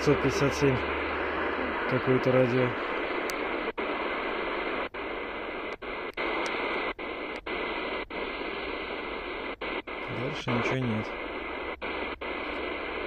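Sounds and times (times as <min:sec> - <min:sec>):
radio static hissing: 0:00.0 - 0:13.0.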